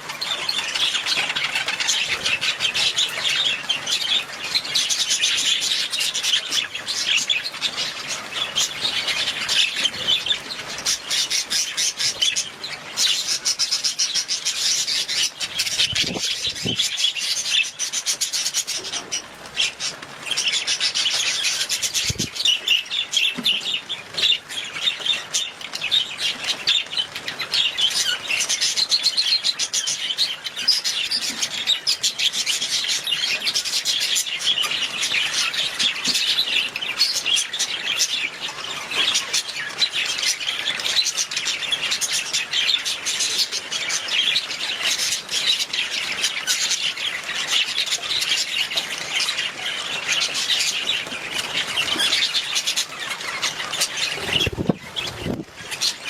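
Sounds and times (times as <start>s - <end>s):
budgies chirping: 0.0s - 56.0s.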